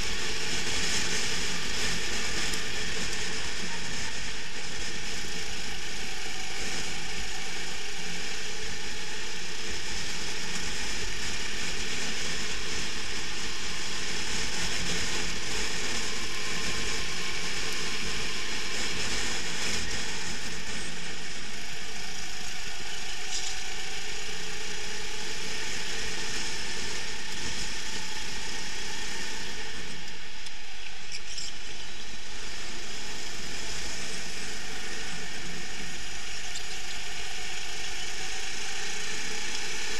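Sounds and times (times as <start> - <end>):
kart engine buzzing: 0.0 - 39.9.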